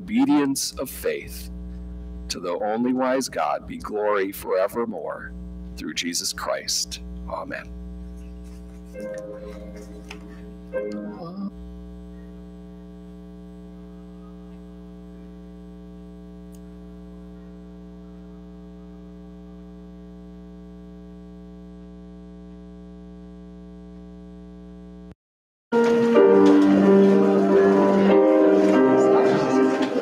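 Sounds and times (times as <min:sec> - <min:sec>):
electrical mains hum: 0:00.0 - 0:25.1.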